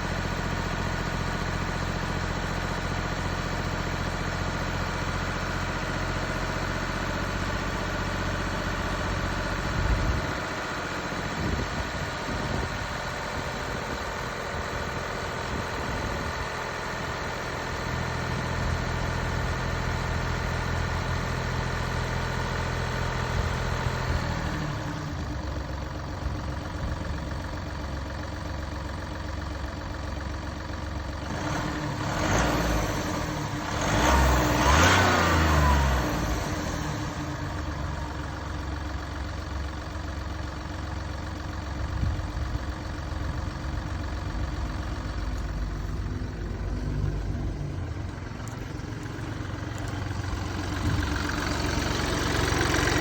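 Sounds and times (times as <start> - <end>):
diesel engine idling and revving: 0.0 - 53.0.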